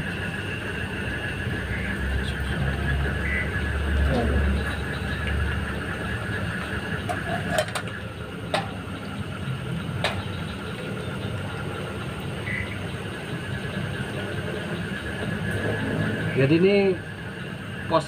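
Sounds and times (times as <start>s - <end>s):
gas stove hissing: 0.0s - 18.0s.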